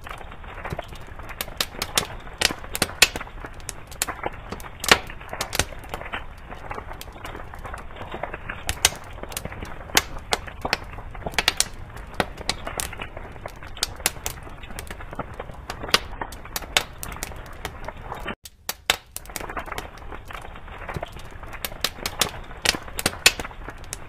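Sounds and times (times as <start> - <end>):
fire crackling and popping: 0.0 - 24.0
rush of flame: 0.0 - 24.0.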